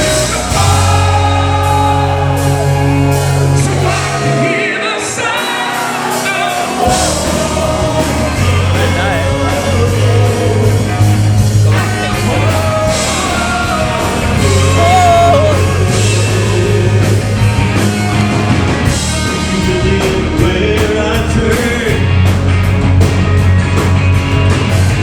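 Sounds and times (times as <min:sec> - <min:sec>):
lead voice singing: 0:00.0 - 0:22.7
rock band playing live: 0:00.0 - 0:25.0.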